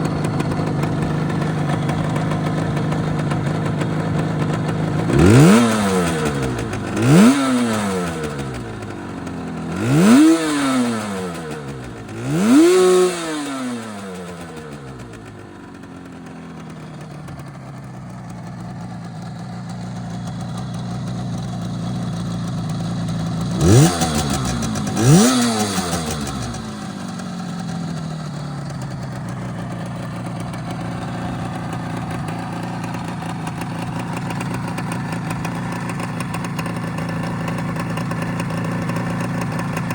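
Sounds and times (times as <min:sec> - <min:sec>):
two-stroke engine revving and idling: 0:00.0 - 0:39.9.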